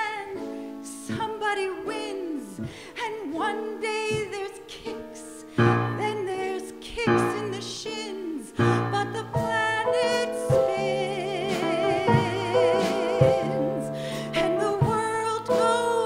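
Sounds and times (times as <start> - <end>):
piano chords: 0.0 - 16.0
woman singing: 0.0 - 16.0.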